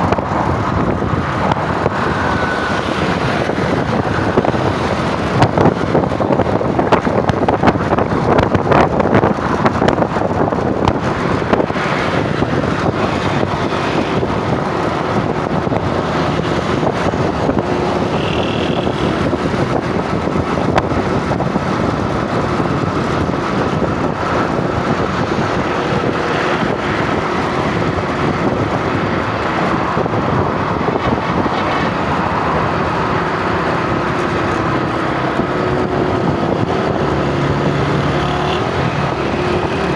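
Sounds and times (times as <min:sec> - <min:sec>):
vehicle engine and road noise: 0:00.0 - 0:39.9
wind buffeting microphone: 0:00.0 - 0:39.9.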